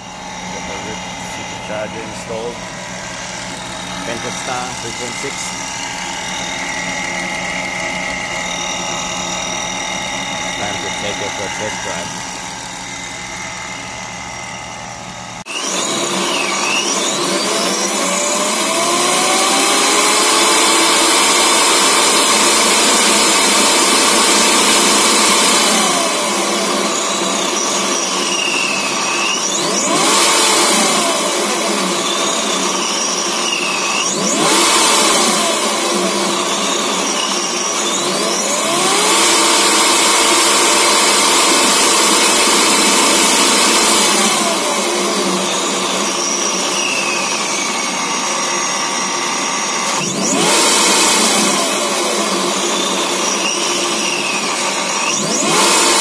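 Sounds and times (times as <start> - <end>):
car engine revving: 0.0 - 56.0
supercharger whine: 0.0 - 56.0.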